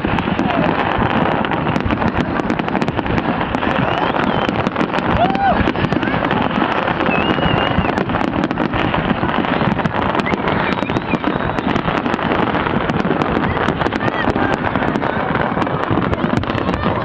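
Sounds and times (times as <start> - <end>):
firework whistles: 0.0 - 17.0
fireworks bangs and crackling: 0.0 - 17.0.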